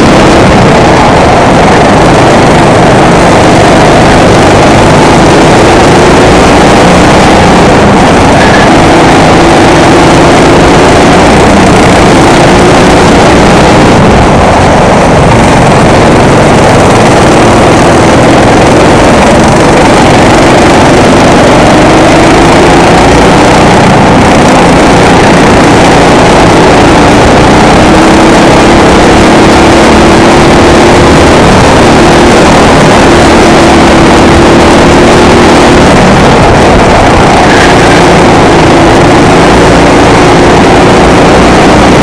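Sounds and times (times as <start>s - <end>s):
kart engine running hard: 0.0s - 42.0s
wind rushing over microphone: 0.0s - 42.0s.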